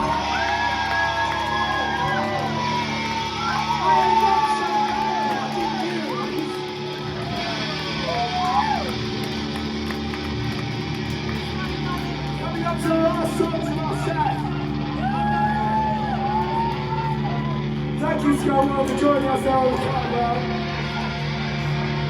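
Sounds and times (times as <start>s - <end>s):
crowd voices shouting: 0.0s - 22.0s
electric guitar through amplifiers: 0.0s - 22.0s
low hum: 0.0s - 22.0s.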